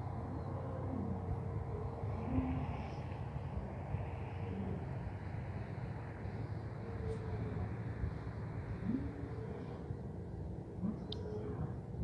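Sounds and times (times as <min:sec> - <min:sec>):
distant traffic rumble: 0:00.0 - 0:12.0
faint steady hum: 0:00.0 - 0:12.0.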